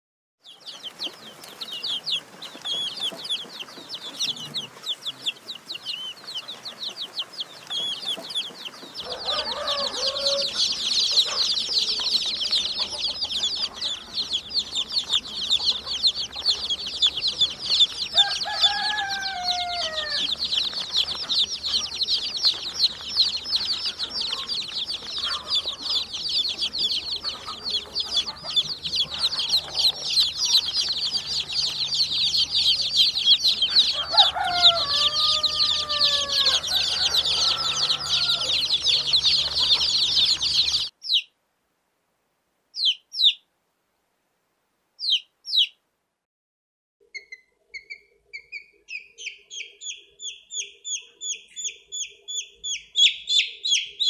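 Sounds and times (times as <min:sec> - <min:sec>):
chicks peeping: 0:00.4 - 0:41.3, 0:42.8 - 0:43.5, 0:45.0 - 0:45.8, 0:47.1 - 0:54.0.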